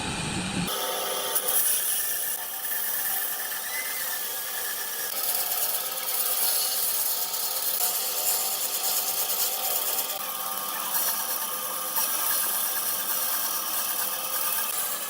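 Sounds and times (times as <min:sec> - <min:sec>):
tool working wood: 0:00.7 - 0:15.0.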